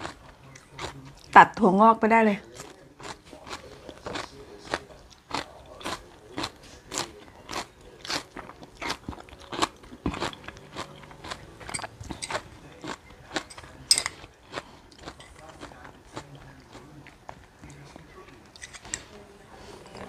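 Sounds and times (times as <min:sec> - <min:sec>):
crunchy chewing: 0:00.0 - 0:01.4, 0:02.4 - 0:19.1.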